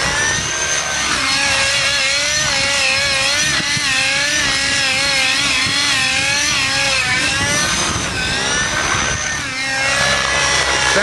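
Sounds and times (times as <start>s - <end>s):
model helicopter engine running: 0.0s - 11.0s.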